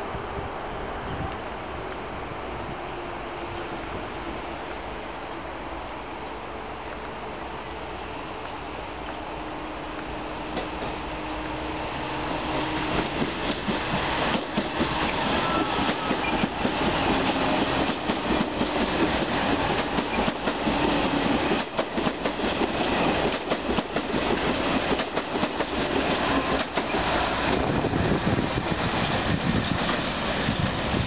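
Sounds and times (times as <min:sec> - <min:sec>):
electric train rolling past: 0:00.0 - 0:31.0.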